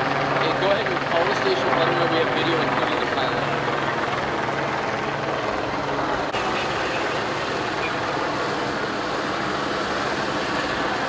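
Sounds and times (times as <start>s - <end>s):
helicopter rotor and engine: 0.0s - 11.0s.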